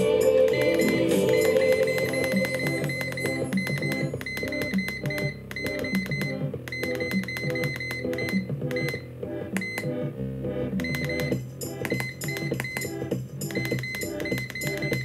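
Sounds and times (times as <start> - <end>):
instrumental music: 0.0 - 15.0.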